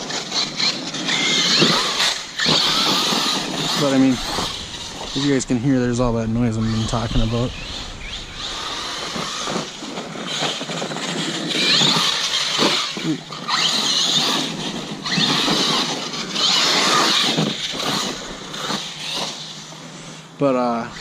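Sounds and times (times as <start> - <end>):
rc truck motor whining: 0.0 - 21.0.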